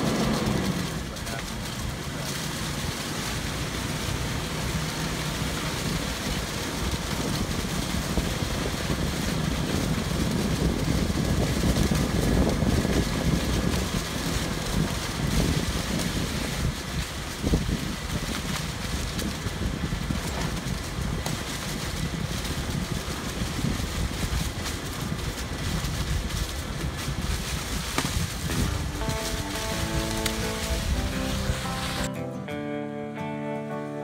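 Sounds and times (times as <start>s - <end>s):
car engine and tyres rumbling: 0.0s - 32.1s.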